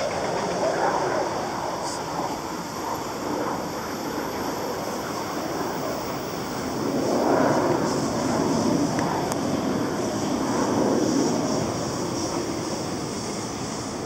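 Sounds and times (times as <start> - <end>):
distant fighter jets roaring: 0.0 - 14.0
freight train passing: 0.0 - 14.0.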